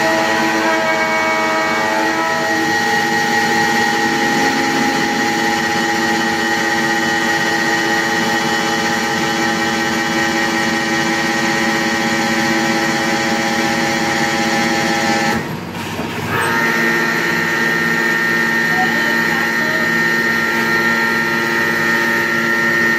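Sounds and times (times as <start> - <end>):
pile-driving machinery whine: 0.0 - 22.9.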